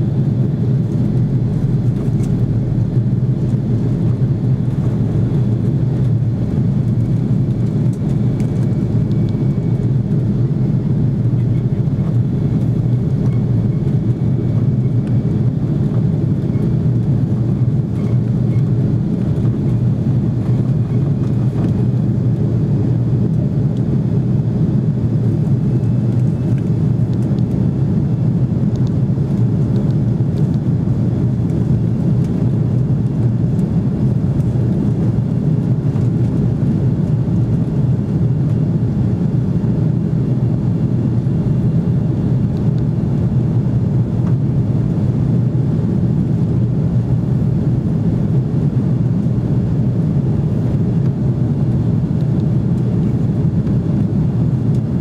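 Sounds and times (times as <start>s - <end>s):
jet engines and airflow in cabin: 0.0s - 55.0s.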